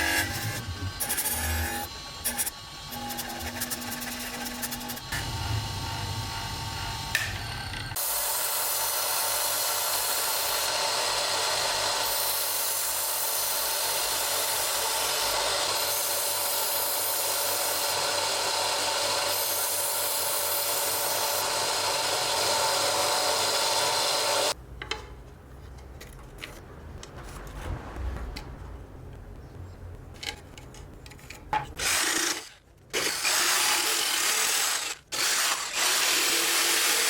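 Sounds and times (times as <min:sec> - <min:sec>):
power tool cutting wood: 0:00.0 - 0:24.6, 0:31.8 - 0:37.0.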